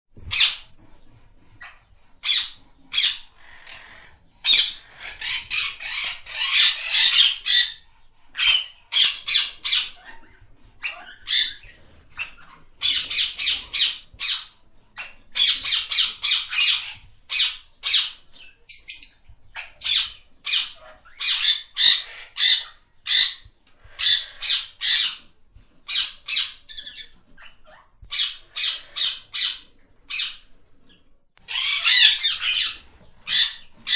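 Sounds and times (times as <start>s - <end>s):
parrot squawking: 1.6s - 7.8s, 8.4s - 25.2s, 25.9s - 30.5s, 31.4s - 33.9s.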